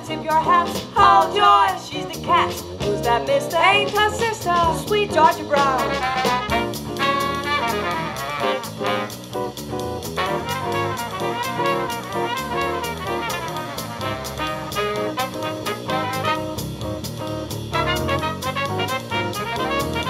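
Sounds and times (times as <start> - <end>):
swing jazz horns over a beat: 0.0 - 20.0.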